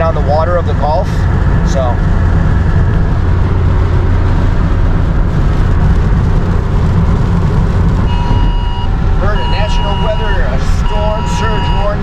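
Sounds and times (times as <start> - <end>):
engine and tyres on wet road: 0.0 - 12.0.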